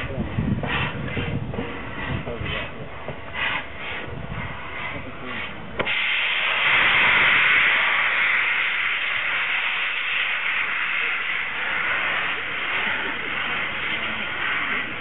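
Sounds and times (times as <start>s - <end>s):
steam hissing: 0.0s - 15.0s
steam locomotive exhaust beats: 0.0s - 15.0s.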